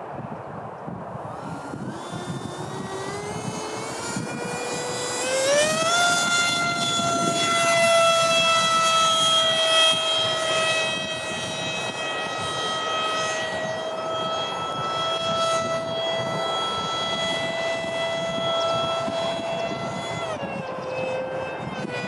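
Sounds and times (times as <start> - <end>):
electric ducted fan whine: 0.0 - 22.0.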